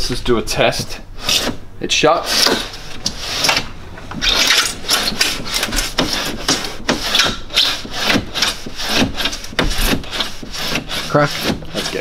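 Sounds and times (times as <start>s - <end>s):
glass scraping in rubber seal: 2.2s - 12.0s.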